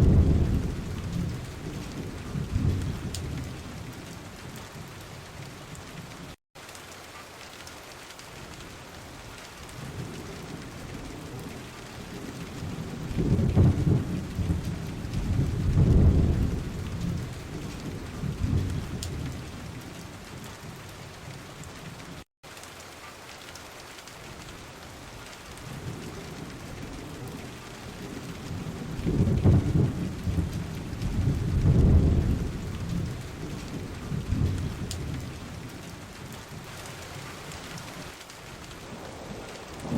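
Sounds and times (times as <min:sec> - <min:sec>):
thunder rumbling: 0:00.0 - 0:06.3, 0:09.7 - 0:22.0, 0:25.6 - 0:39.9
heavy rain: 0:00.0 - 0:39.9.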